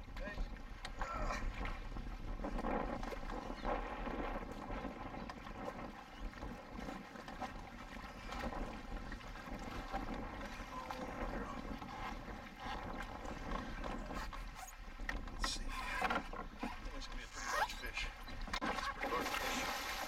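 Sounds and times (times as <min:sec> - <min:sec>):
choppy water around a canoe: 0:00.0 - 0:20.0
wind: 0:00.0 - 0:20.0.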